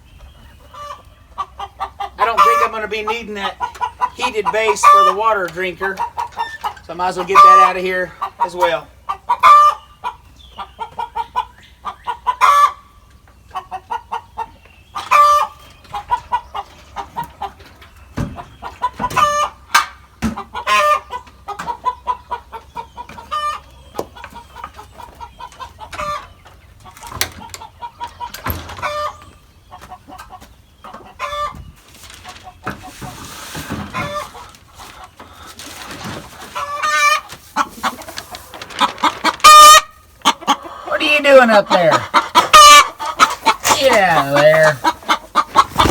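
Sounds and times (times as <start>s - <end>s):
hens clucking and squawking: 0.0s - 45.9s.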